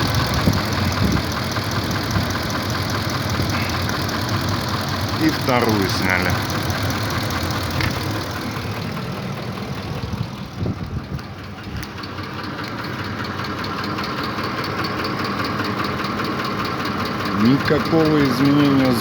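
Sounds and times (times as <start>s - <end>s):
engine idling with ticking knock: 0.0s - 19.0s.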